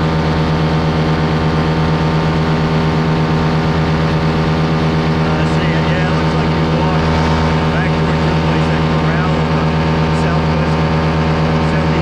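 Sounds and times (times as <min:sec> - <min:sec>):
paramotor engine droning: 0:00.0 - 0:12.0.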